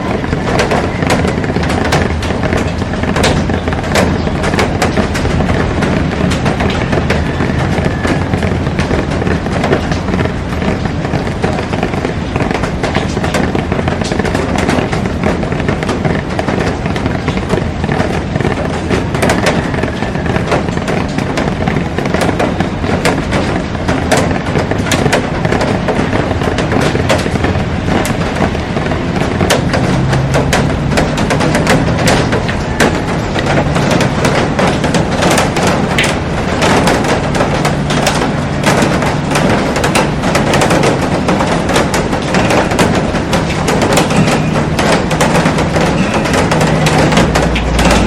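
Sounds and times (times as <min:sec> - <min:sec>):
heavy rain hiss: 0:00.0 - 0:48.0
raindrops crackling on glass: 0:00.0 - 0:48.0.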